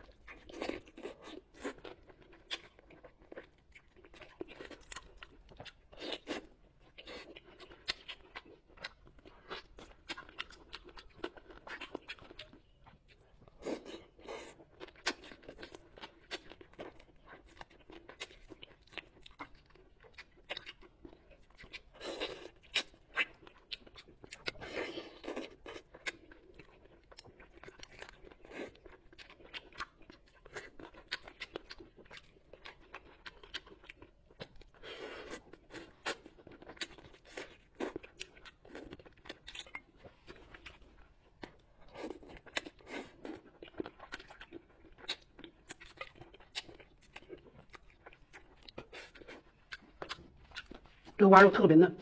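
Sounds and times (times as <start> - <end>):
wet chewing and crunching: 0.0 - 51.2.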